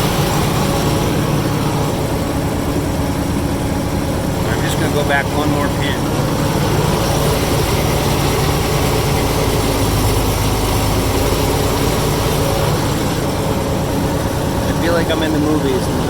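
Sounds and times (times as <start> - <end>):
bulldozer engine running: 0.0 - 16.0.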